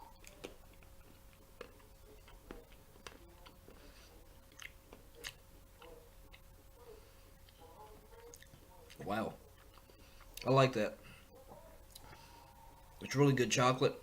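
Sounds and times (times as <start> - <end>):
faint chewing: 0.0 - 13.2.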